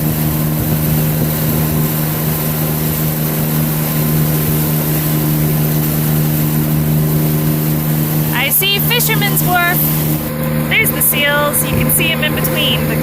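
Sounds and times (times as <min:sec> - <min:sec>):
boat engine drone: 0:00.0 - 0:13.0
wind and water hiss: 0:00.0 - 0:13.0.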